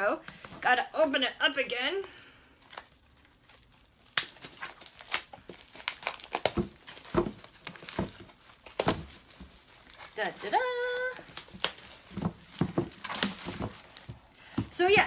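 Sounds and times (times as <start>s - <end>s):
plastic wrap crinkling and tearing: 0.0s - 15.0s.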